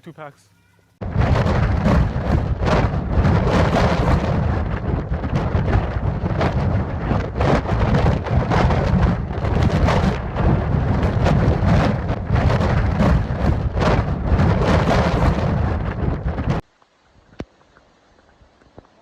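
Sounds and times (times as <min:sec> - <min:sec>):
constant crackling: 0:00.0 - 0:19.0
storm rumble: 0:01.0 - 0:16.6.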